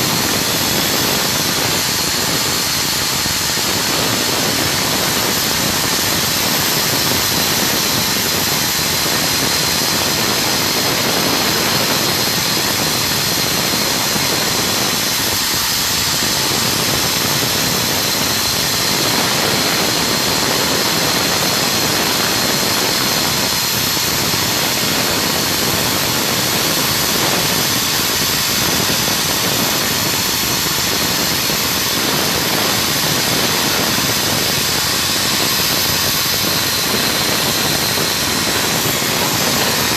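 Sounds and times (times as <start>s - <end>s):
constant high whine: 0.0s - 39.9s
machinery hiss: 0.0s - 39.9s.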